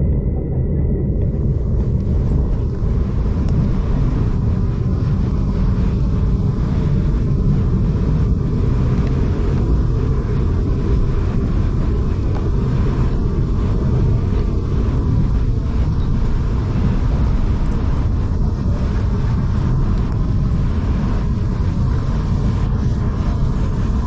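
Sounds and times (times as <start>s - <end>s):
train rumbling on track: 0.0s - 24.0s.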